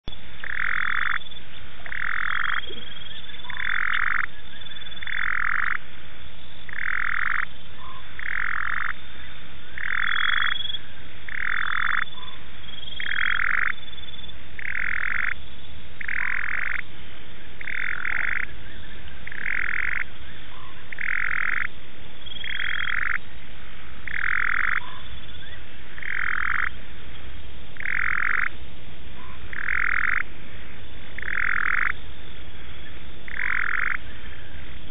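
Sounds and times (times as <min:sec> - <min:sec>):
frog croaking: 0:00.4 - 0:05.9, 0:06.6 - 0:16.9, 0:17.6 - 0:23.2, 0:24.0 - 0:26.8, 0:27.8 - 0:28.6, 0:29.2 - 0:32.0, 0:32.6 - 0:34.6.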